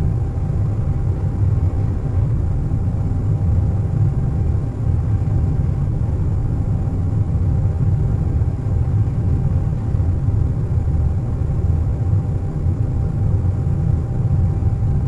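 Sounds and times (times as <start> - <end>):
engine and airflow rumble: 0.0 - 15.0
faint steady whine: 0.0 - 15.0.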